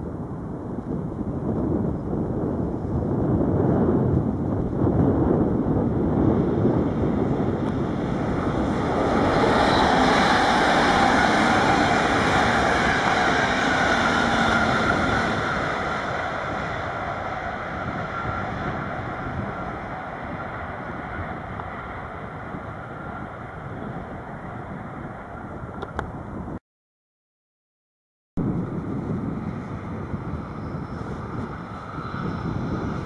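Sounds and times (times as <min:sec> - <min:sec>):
train passing on tracks: 0:01.1 - 0:26.5, 0:28.5 - 0:33.0.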